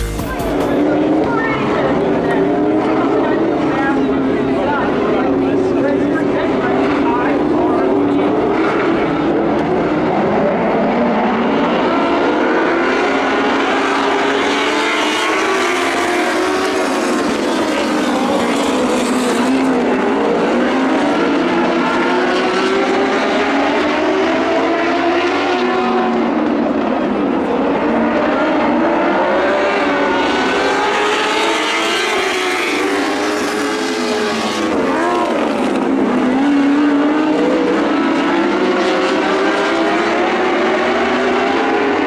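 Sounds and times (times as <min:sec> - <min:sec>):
race car engines: 0:00.0 - 0:42.0.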